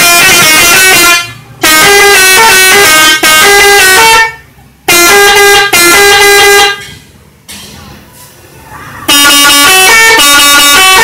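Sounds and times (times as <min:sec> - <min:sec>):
melodic bus horn blasts: 0:00.0 - 0:07.0, 0:09.1 - 0:11.0.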